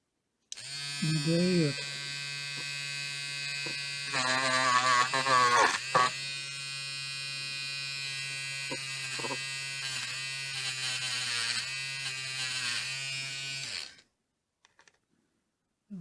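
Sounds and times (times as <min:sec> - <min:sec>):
electric rotary tool buzzing: 0:00.5 - 0:14.0.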